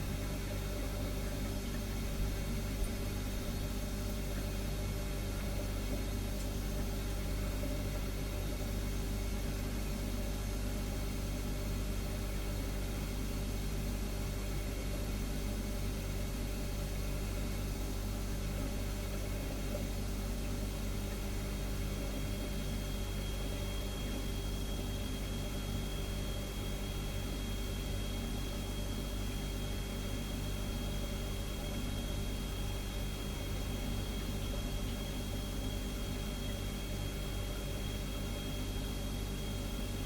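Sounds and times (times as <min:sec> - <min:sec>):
refrigerator humming: 0:00.0 - 0:40.0.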